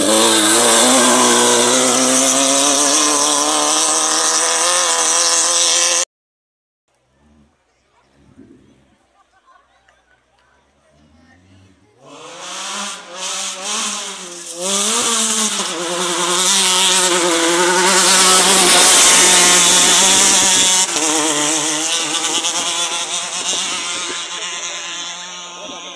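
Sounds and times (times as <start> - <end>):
off-road vehicle engine passing: 0.0 - 6.0, 10.0 - 25.9.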